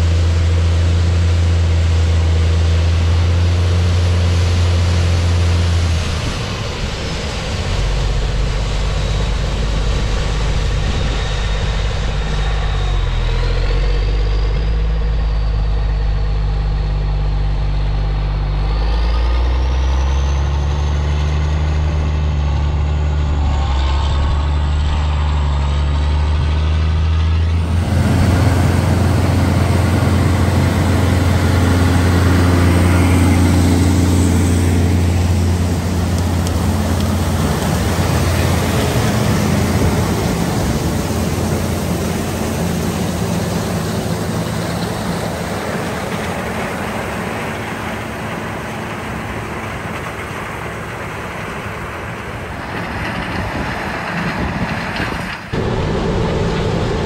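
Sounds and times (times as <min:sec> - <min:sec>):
combine harvester running: 0:00.0 - 0:57.0
tractor diesel engine: 0:00.0 - 0:57.0.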